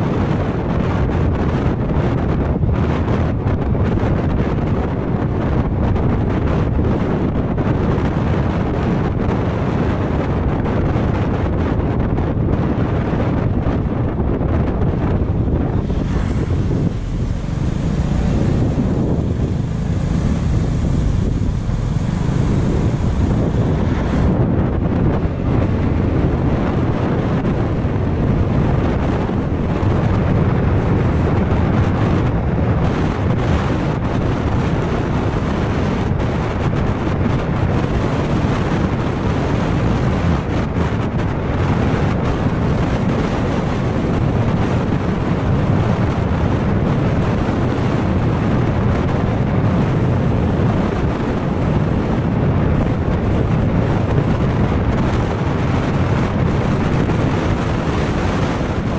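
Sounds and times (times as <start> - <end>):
road noise: 0.0 - 58.9
wind buffeting microphone: 0.0 - 58.9.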